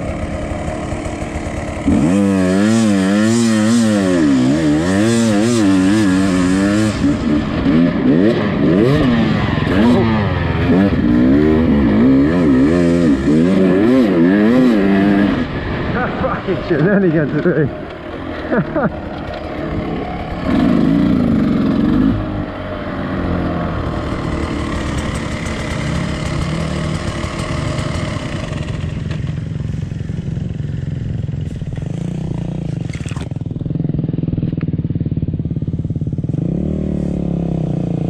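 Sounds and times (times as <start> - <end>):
dirt bike engine revving and idling: 0.0 - 38.0.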